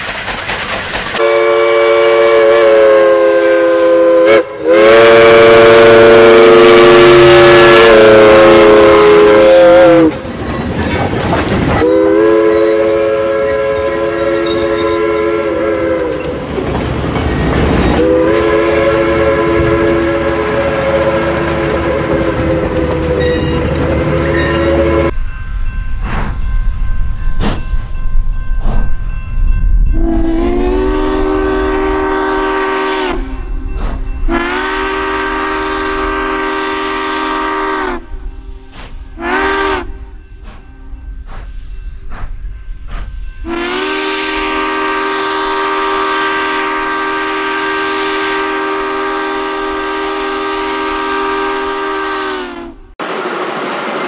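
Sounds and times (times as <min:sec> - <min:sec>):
train rumbling and clanking: 0:00.0 - 0:54.0
steam locomotive chime whistle: 0:01.1 - 0:10.4, 0:11.8 - 0:16.5, 0:17.9 - 0:54.0.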